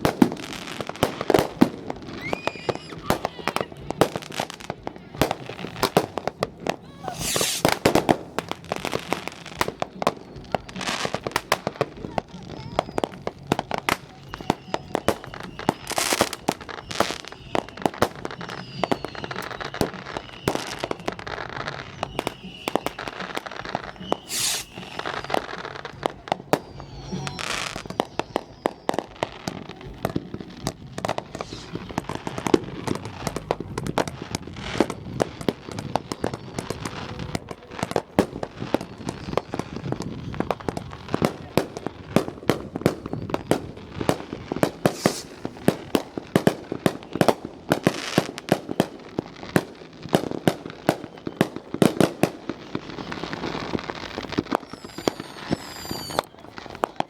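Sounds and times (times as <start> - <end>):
fireworks bangs and crackling: 0.0 - 57.0
fireworks hissing blasts: 0.0 - 57.0
fireworks whistles: 0.0 - 57.0.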